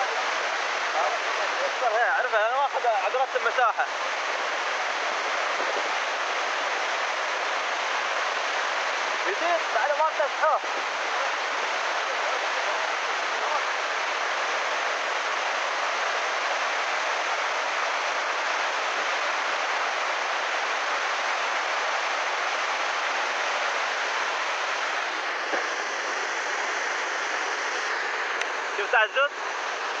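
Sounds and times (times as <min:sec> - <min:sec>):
floodwater rushing: 0:00.0 - 0:30.0
heavy rain: 0:00.0 - 0:30.0.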